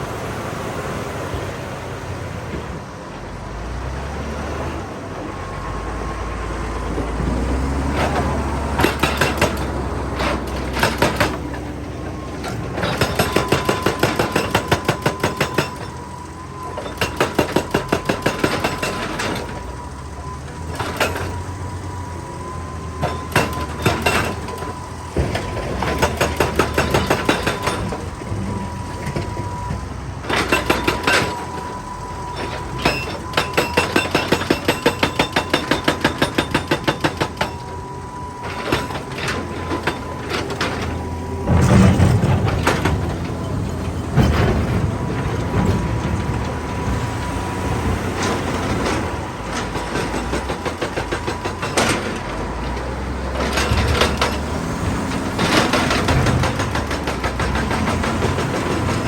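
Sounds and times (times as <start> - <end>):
diesel engine droning: 0.0 - 59.0
hydraulic breaker hammering rock: 7.0 - 19.8, 20.6 - 21.6, 22.7 - 29.6, 30.2 - 47.0, 48.0 - 59.0.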